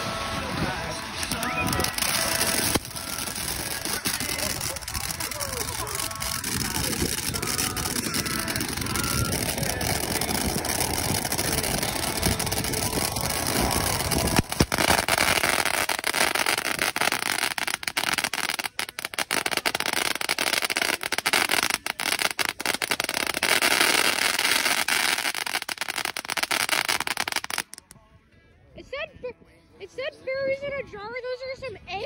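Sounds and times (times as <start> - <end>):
firework fountain crackling hiss: 0.0 - 27.9.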